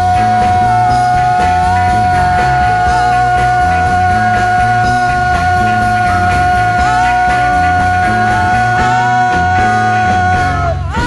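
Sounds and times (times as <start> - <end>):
bass line: 0.0 - 11.0
drums: 0.0 - 11.0.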